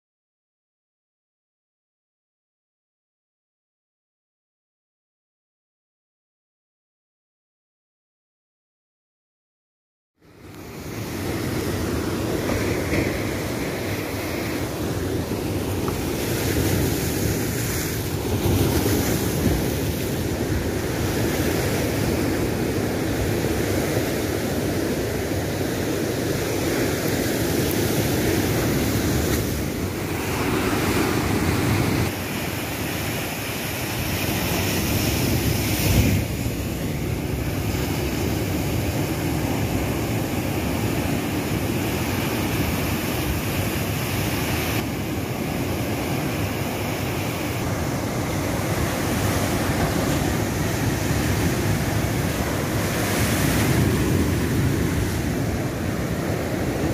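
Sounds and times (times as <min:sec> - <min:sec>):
sea surf crashing on rocks: 0:10.6 - 0:56.9.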